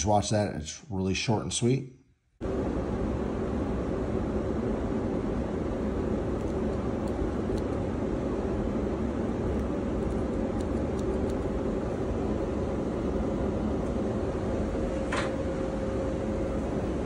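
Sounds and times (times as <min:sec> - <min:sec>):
low mechanical rumble: 0:02.4 - 0:17.0.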